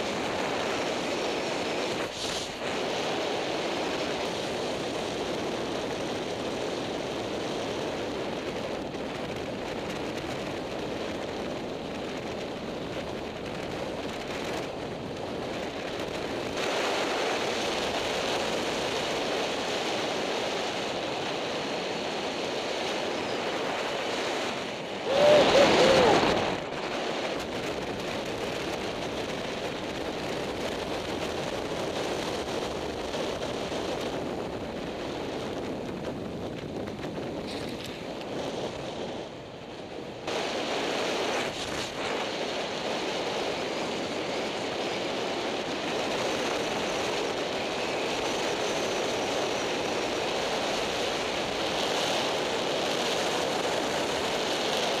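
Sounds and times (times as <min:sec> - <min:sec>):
skate wheels rolling on asphalt: 0:00.0 - 0:55.0
wind noise on microphone: 0:00.0 - 0:55.0.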